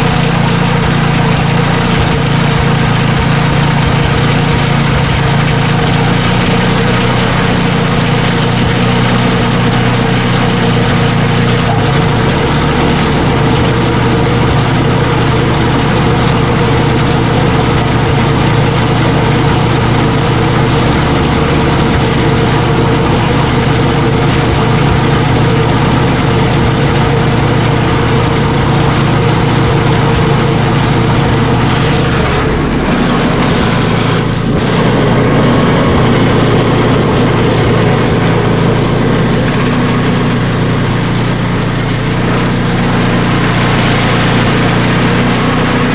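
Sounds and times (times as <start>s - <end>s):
snow blower engine running: 0.0s - 45.9s.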